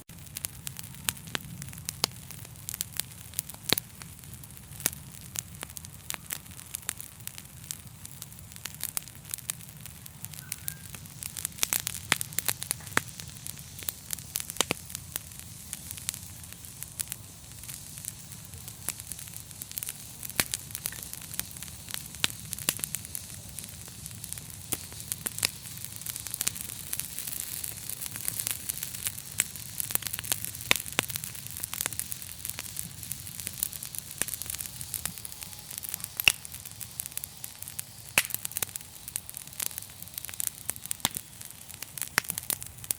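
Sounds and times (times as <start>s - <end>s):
fire crackles and pops: 0.0s - 42.9s
fire hissing: 0.0s - 42.9s.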